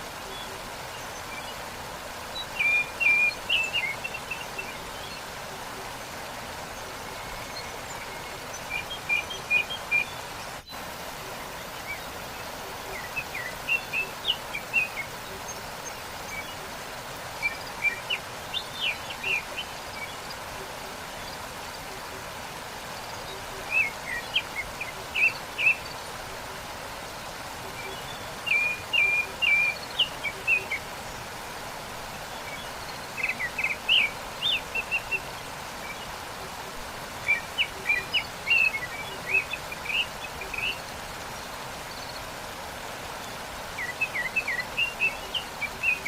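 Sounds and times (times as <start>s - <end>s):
songbird chirping: 0.0s - 46.0s
waterfall rushing: 0.0s - 46.0s.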